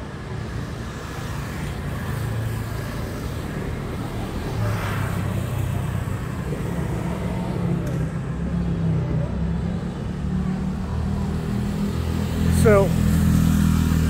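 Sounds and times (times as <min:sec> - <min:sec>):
vehicle passing by: 0:00.7 - 0:14.0.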